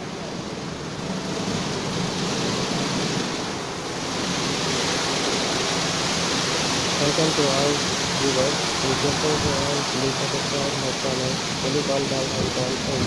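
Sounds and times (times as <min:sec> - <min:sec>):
low machine hum: 0:00.0 - 0:13.0
spraying water: 0:00.0 - 0:13.0.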